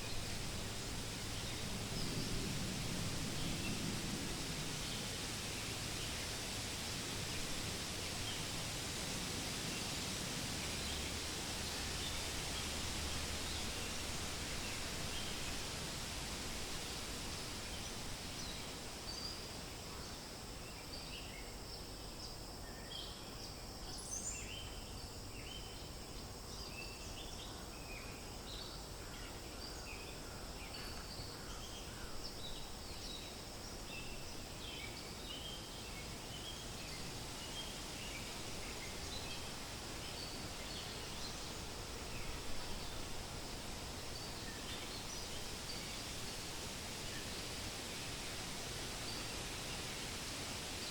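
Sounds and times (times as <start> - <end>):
wind rustling through leaves: 0.0 - 50.9.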